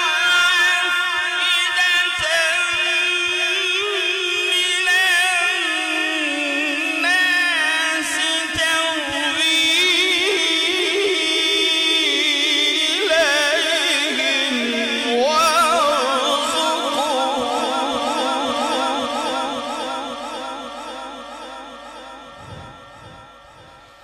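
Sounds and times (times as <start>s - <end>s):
man reciting melodically: 0.0s - 24.0s.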